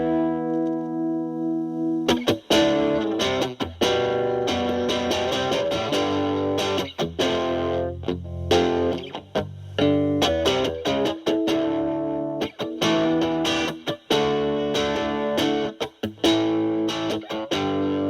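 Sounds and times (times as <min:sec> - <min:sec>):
distorted electric guitar chords: 0:00.0 - 0:18.0.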